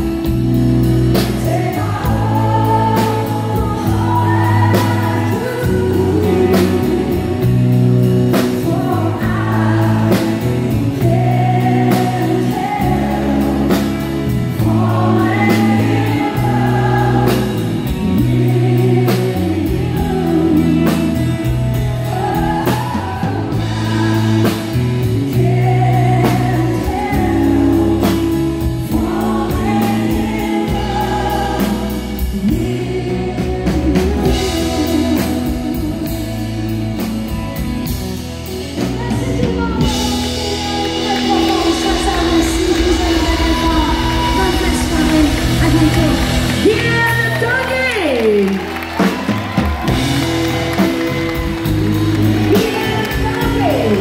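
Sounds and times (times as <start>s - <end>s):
country band playing: 0.0s - 54.0s
woman singing: 1.1s - 37.4s, 38.8s - 50.1s, 52.1s - 54.0s.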